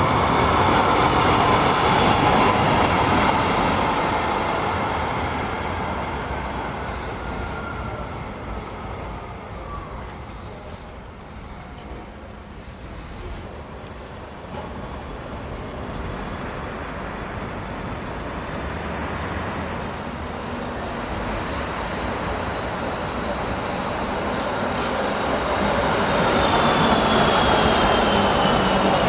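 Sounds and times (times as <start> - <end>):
street traffic: 0.0 - 29.0
tram running on rails: 0.0 - 29.0.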